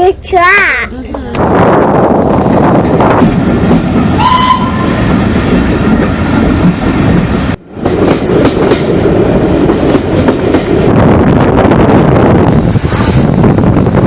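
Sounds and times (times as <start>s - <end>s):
steam train rumbling: 0.0s - 14.0s.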